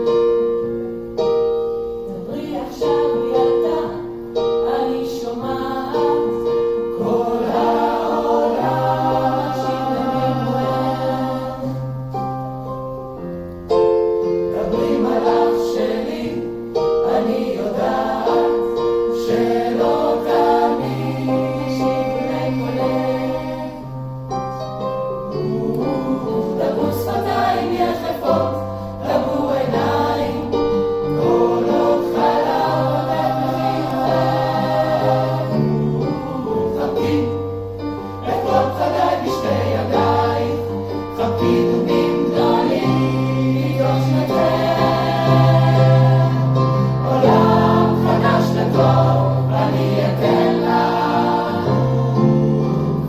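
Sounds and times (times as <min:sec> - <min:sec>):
choir singing in parts: 0:02.0 - 0:12.4, 0:14.2 - 0:24.0, 0:24.8 - 0:53.0.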